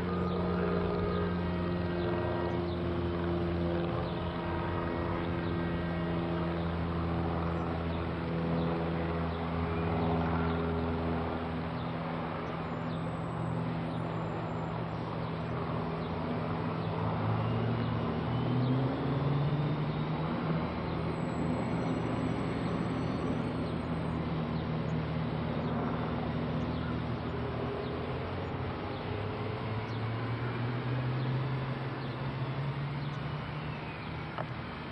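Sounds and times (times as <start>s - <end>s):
engine hum: 0.0s - 34.9s.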